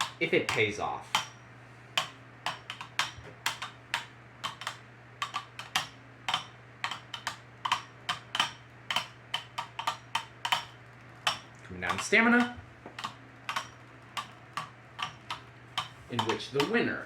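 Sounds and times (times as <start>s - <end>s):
faint steady hum: 0.0s - 17.0s
spinning tops clacking together: 2.0s - 16.8s.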